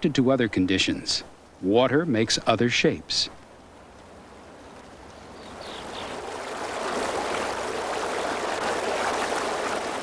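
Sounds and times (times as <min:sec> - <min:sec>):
stream flowing: 0:00.0 - 0:10.0.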